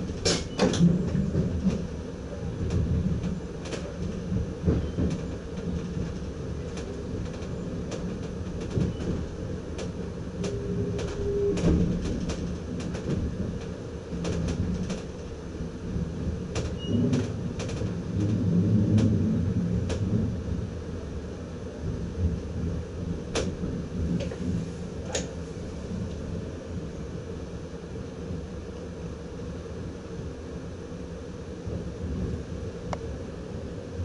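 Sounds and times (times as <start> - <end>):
train rumbling slowly: 0.0 - 34.0.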